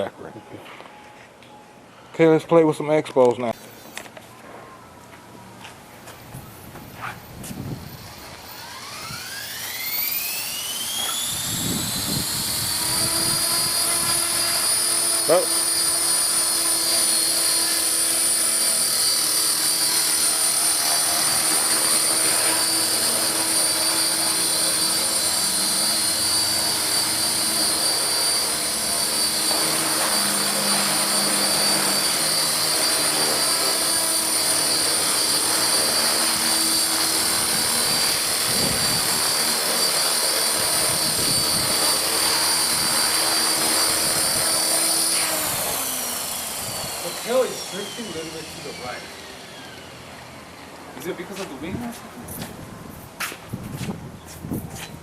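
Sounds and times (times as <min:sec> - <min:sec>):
rc helicopter motor whine: 0:05.8 - 0:55.0
rotor blades rushing: 0:06.2 - 0:55.0.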